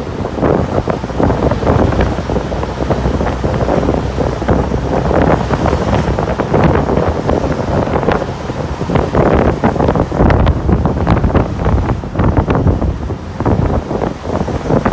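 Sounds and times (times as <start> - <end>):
wind on microphone: 0.0 - 14.9.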